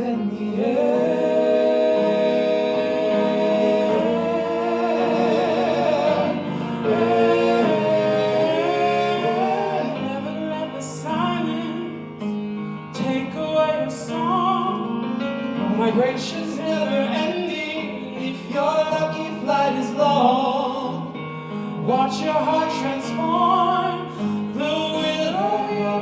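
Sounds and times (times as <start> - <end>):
piano accompaniment: 0.0 - 26.0.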